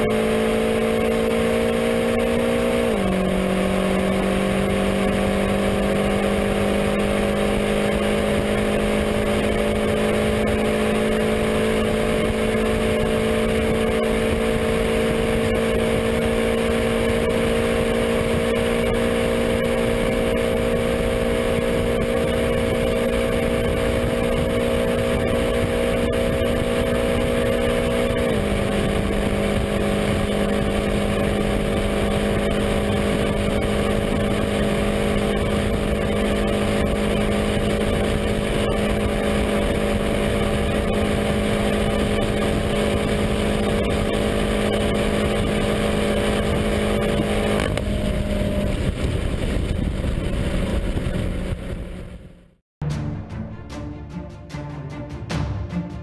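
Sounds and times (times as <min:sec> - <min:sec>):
wind and road noise: 0:00.0 - 0:52.6
car engine at full throttle: 0:00.0 - 0:52.7.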